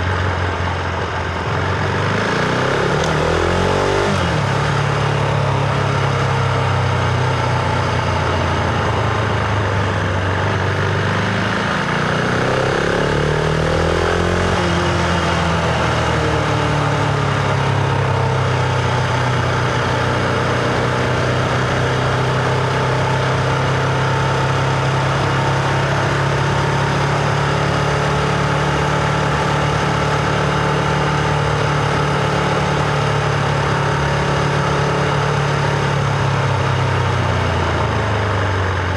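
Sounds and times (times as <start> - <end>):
motorcycle engine running loudly: 0.0 - 38.9.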